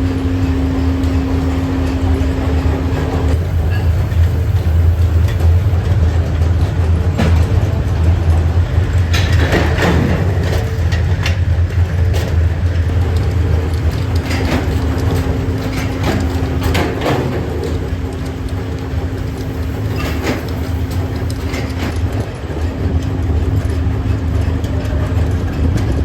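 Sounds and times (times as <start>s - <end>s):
factory machinery humming: 0.0s - 26.0s
metal knocks and clanks: 0.3s - 22.8s.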